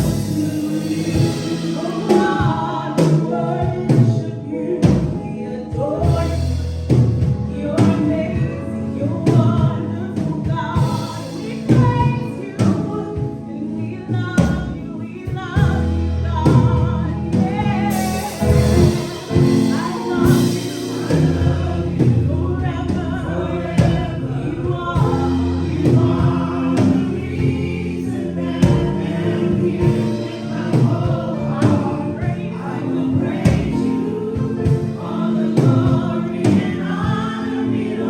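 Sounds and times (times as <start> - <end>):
gospel choir singing: 0.0 - 38.0
instrumental backing with steady beat: 0.0 - 38.0.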